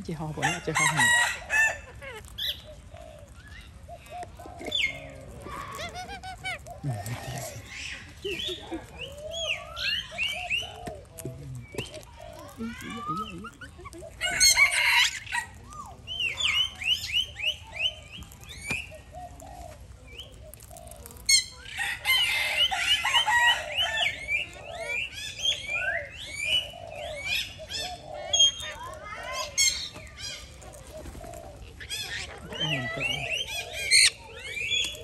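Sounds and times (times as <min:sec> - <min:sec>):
parakeets chirping and screeching: 0:00.0 - 0:35.0.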